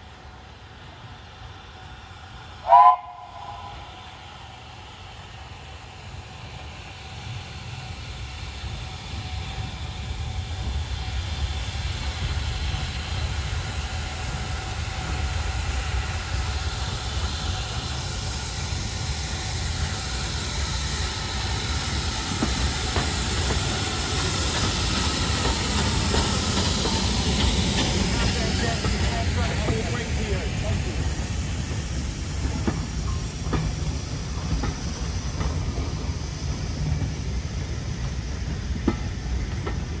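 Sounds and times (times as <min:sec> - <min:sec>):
steam hissing: 0:00.0 - 0:40.0
locomotive rumble: 0:02.2 - 0:40.0.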